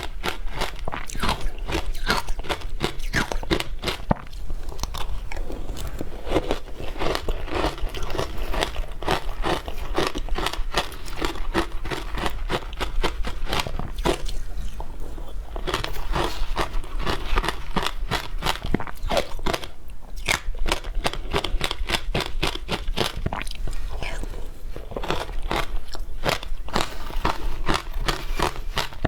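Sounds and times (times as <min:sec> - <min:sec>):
crunching ice being chewed: 0:00.0 - 0:29.0.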